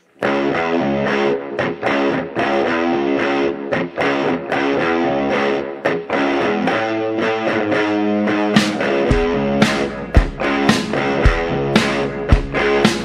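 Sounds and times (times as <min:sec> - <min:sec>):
electric guitar music with beat: 0:00.0 - 0:13.0.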